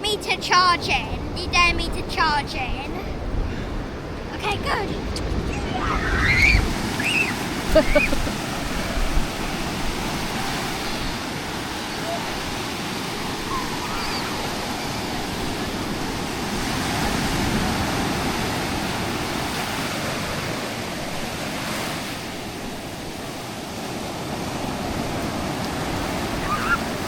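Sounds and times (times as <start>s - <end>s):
waves washing on shore: 3.0s - 27.0s.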